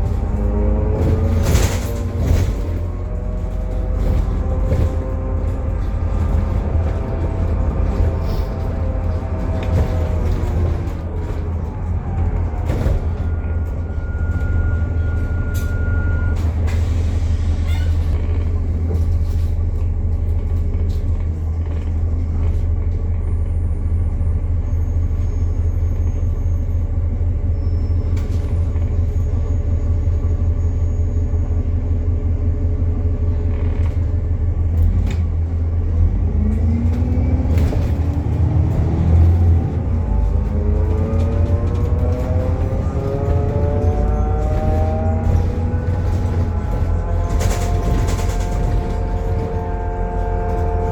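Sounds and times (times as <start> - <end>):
bus axle whine: 0.0 - 50.9
bus drive drone: 0.0 - 50.9.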